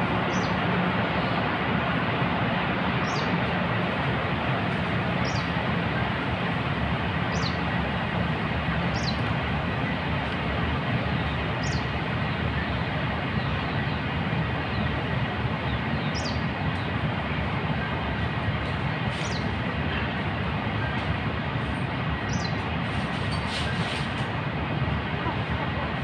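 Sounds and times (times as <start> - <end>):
rushing background noise: 0.0 - 26.0.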